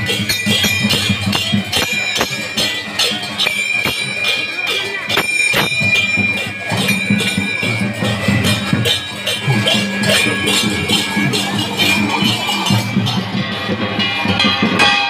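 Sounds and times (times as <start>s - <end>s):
held high ringing tone: 0.0s - 13.7s
jingling hand cymbals and bells: 0.0s - 15.0s.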